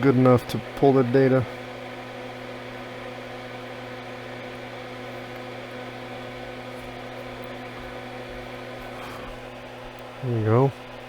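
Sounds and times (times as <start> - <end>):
electrical hum: 0.0 - 11.0
equipment whir: 0.0 - 11.0.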